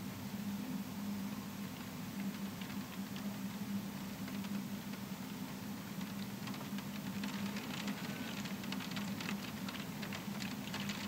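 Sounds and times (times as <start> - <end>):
rain pattering on window glass: 1.2 - 11.0.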